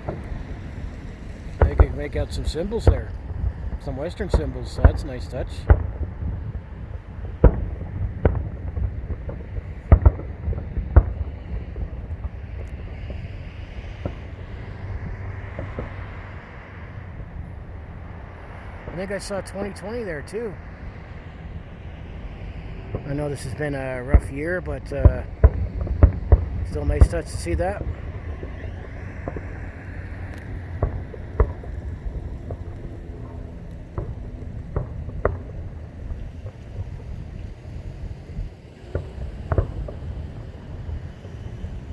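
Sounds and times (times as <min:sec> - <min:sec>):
distant firework bursts: 0:00.0 - 0:41.9
steady low rumble: 0:00.0 - 0:41.9
wind on microphone: 0:00.0 - 0:41.9.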